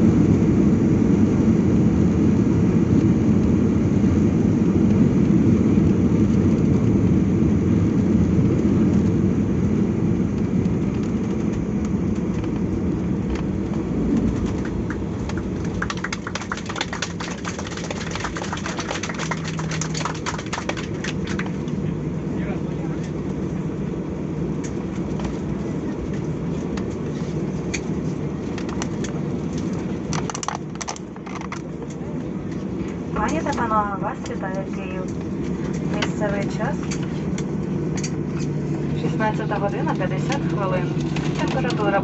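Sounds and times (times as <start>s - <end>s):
airliner engine and rolling rumble: 0.0s - 42.0s.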